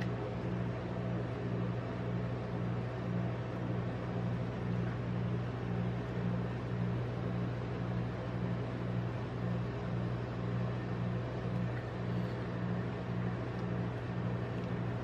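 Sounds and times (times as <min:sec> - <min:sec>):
refrigerated machine humming: 0:00.0 - 0:15.0.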